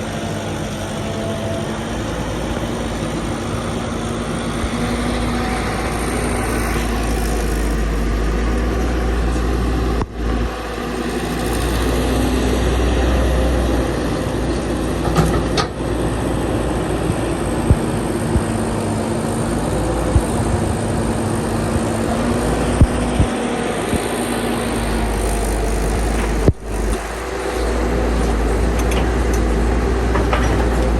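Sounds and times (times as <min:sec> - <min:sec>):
excavator diesel engine rumbling: 0:00.0 - 0:30.9.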